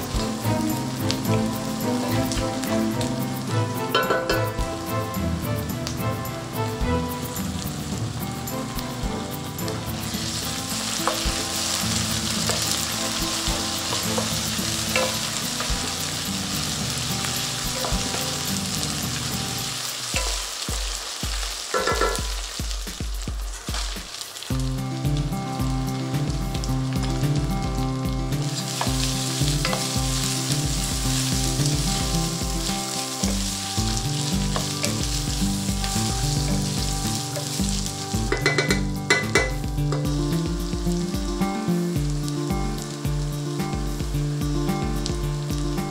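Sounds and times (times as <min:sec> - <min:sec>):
background music with steady beat: 0:00.0 - 0:45.9
onions sizzling in hot oil: 0:00.0 - 0:45.9.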